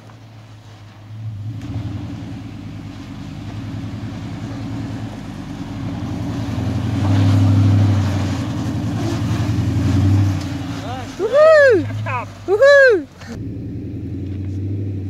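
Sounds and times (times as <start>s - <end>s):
pickup truck engine under load: 0.0s - 15.0s.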